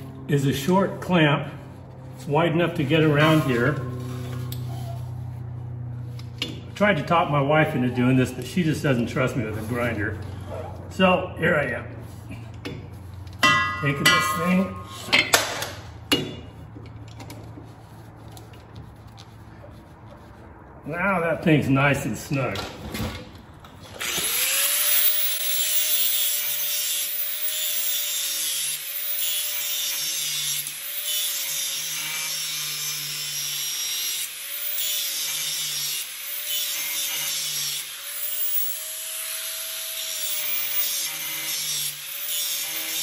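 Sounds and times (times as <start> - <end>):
angle grinder grinding steel: 0.0 - 18.6, 23.9 - 43.0.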